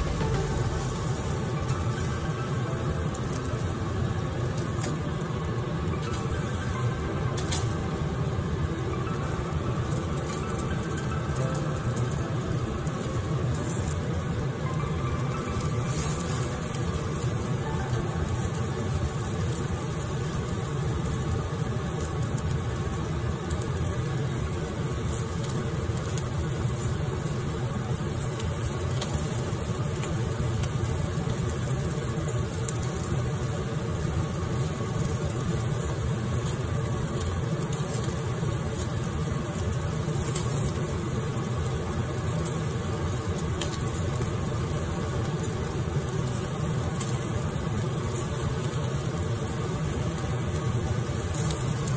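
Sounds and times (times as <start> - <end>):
gas burner rumbling: 0.0 - 51.9.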